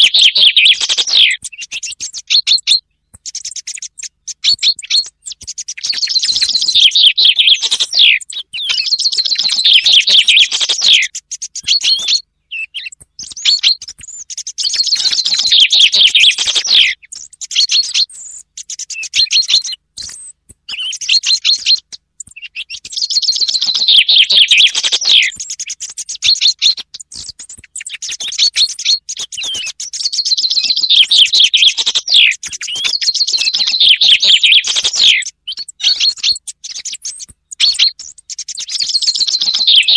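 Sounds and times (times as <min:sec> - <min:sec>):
chaffinch song: 0:00.0 - 0:39.9.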